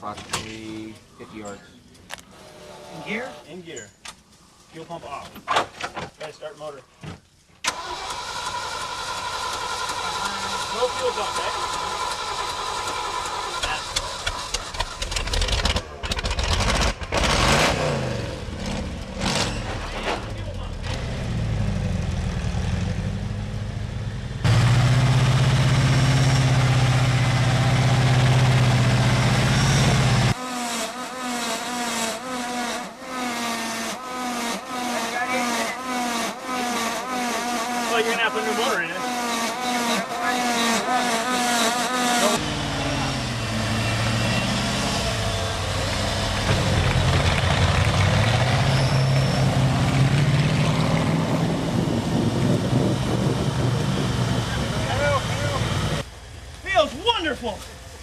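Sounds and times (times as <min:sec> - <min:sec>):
outdoor noise: 0:00.0 - 0:58.0
engine running at raised speed: 0:07.7 - 0:19.6, 0:20.5 - 0:56.1.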